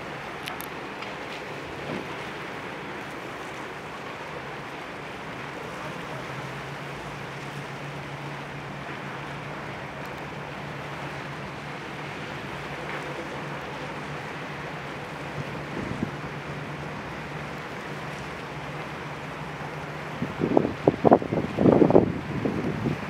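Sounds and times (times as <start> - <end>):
rushing water and wind: 0.0 - 23.0
ship diesel engines humming: 0.0 - 23.0.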